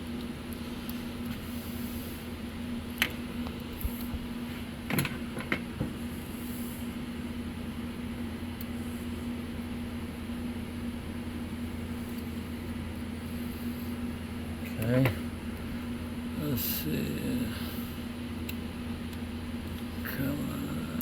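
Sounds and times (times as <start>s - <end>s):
fan hum: 0.0s - 21.0s.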